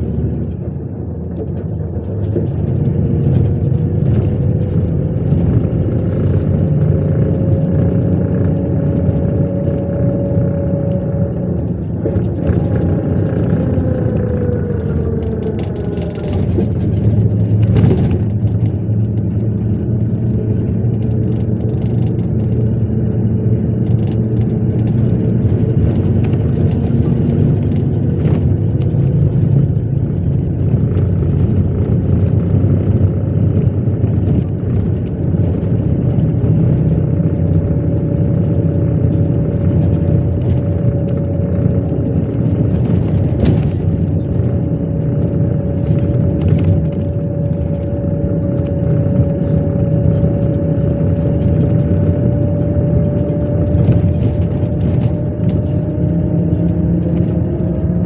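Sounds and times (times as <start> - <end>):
bus engine and road hum: 0.0 - 58.0
rising engine whine: 0.0 - 58.0.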